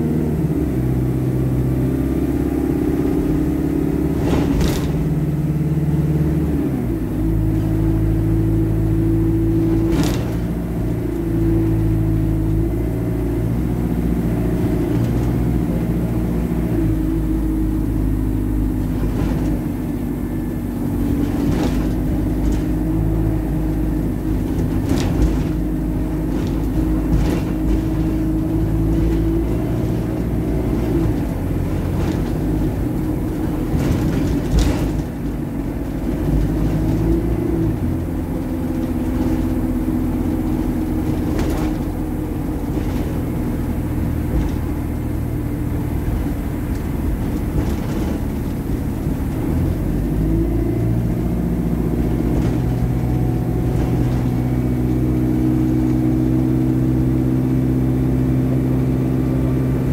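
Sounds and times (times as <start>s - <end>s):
bus engine drone: 0.0s - 59.9s
rattles and knocks: 2.8s - 59.9s.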